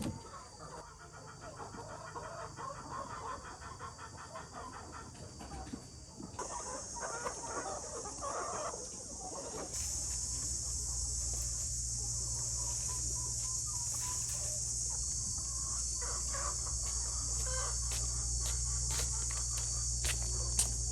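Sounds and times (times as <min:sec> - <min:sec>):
chickens clucking: 0:00.0 - 0:20.9
crickets chirring: 0:00.0 - 0:20.9.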